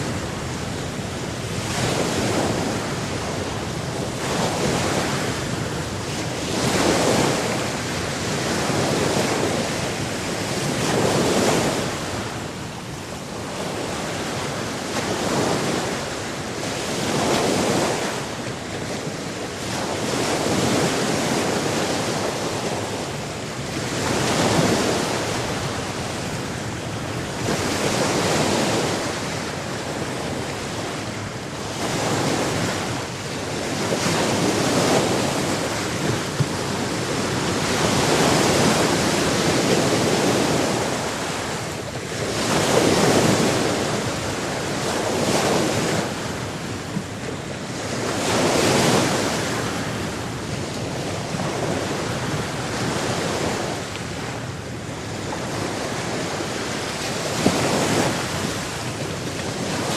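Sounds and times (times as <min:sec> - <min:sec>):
rush of water: 0:00.0 - 0:59.9
waves breaking: 0:00.0 - 0:59.9.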